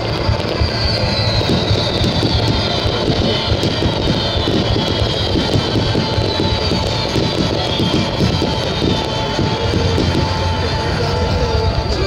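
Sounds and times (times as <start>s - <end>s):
fireworks booming and crackling: 0.0s - 12.0s
music: 0.0s - 12.0s.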